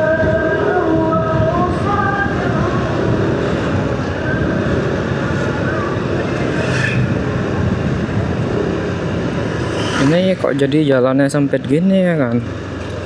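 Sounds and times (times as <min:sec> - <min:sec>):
wind rush on microphone: 0:00.0 - 0:10.8
motorcycle engine: 0:00.0 - 0:13.0
traffic: 0:00.0 - 0:13.0.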